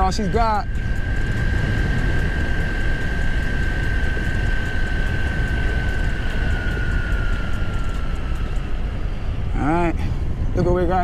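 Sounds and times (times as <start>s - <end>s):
electric motor whine: 0.0s - 11.0s
wind rumble on microphone: 0.0s - 11.0s.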